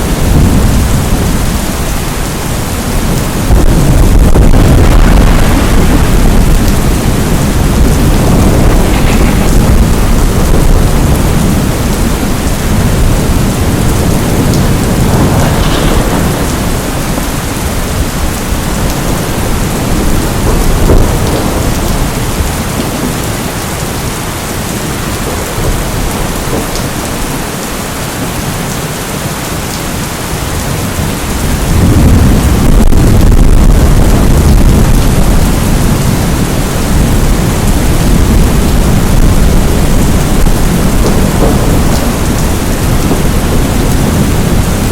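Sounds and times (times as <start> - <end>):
rolling thunder: 0.0 - 27.4, 30.9 - 44.9
heavy rain: 0.0 - 44.9.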